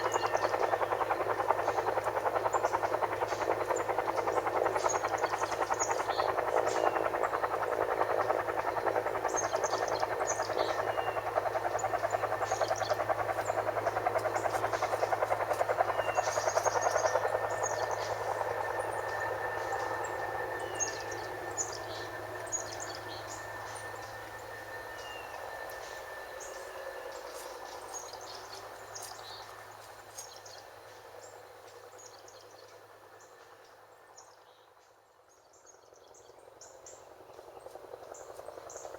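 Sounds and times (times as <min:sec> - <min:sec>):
helicopter rotor pulsing: 0:00.0 - 0:34.4, 0:35.7 - 0:38.9.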